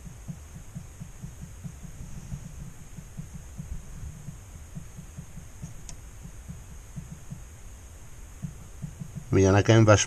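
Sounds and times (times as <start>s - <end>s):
dull quick knocks: 0.0s - 7.6s, 8.4s - 9.5s
faint high whine: 0.0s - 10.0s.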